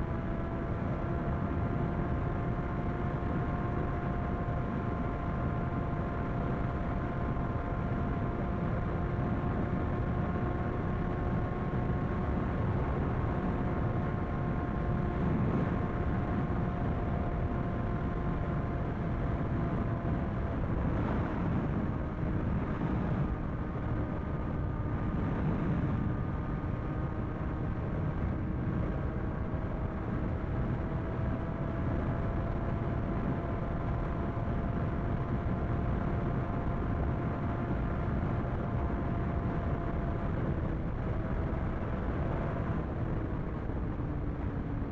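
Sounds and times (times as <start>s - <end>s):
motorcycle engine drone: 0.0s - 44.9s
road noise: 0.0s - 44.9s
wind rush on microphone: 0.0s - 44.9s.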